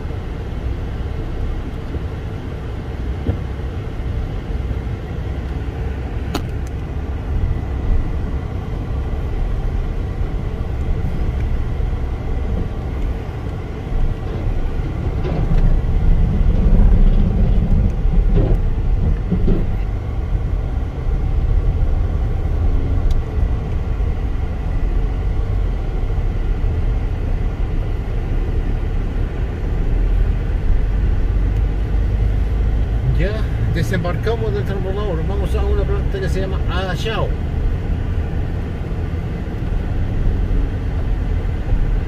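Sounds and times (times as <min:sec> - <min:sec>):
vehicle rumble: 0:00.0 - 0:42.0.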